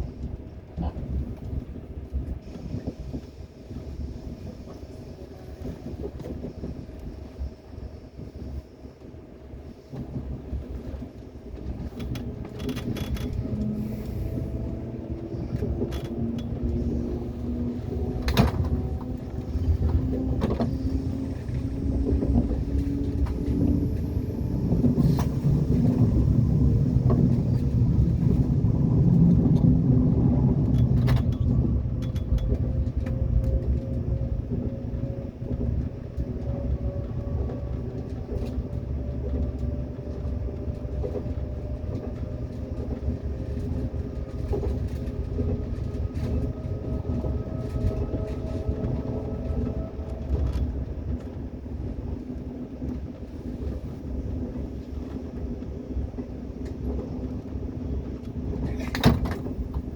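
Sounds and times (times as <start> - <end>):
train running on track: 0.0 - 59.9.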